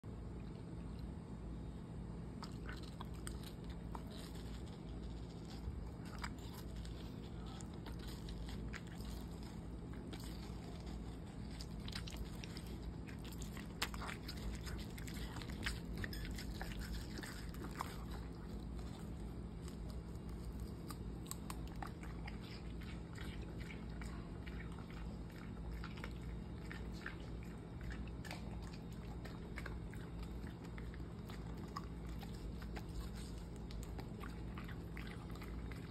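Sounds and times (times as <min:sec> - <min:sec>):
dog chewing watermelon: 0:02.1 - 0:35.9.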